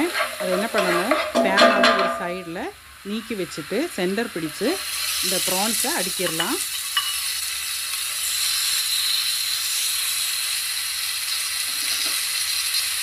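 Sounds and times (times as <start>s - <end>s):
prawns sizzling in a frying pan: 0.0s - 13.0s.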